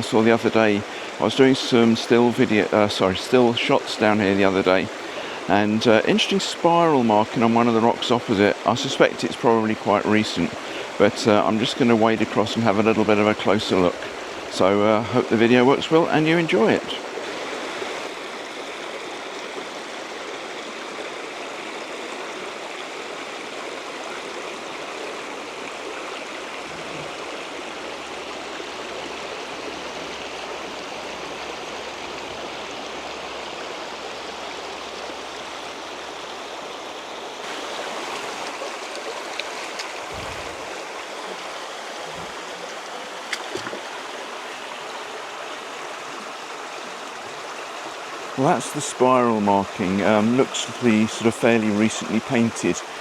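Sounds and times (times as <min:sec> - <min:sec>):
water running over rocks: 0:00.0 - 0:53.0.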